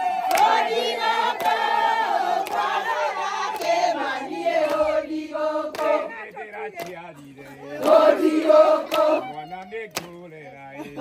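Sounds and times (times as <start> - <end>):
women singing and chanting: 0.0 - 11.0
hand claps: 0.2 - 4.9, 5.6 - 10.3.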